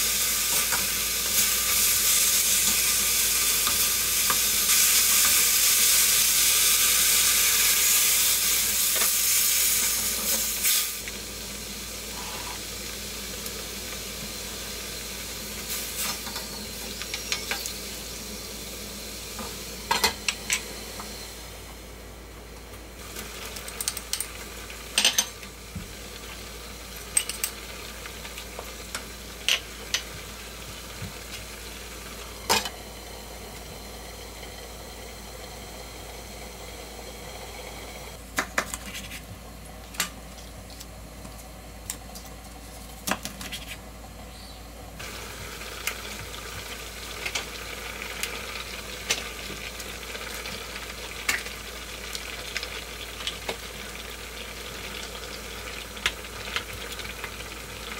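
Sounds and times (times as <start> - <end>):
stew simmering and sizzling: 0.0 - 43.0, 44.9 - 57.9.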